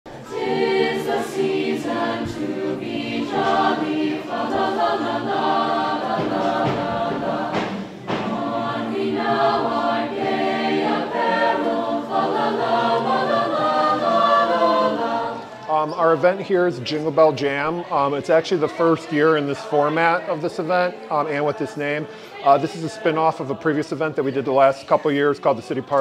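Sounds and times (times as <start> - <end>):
choir singing: 0.1 - 26.0.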